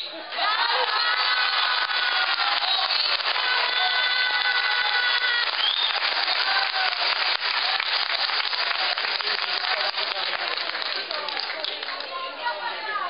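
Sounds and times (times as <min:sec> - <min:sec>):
audience clapping: 0:00.4 - 0:12.4.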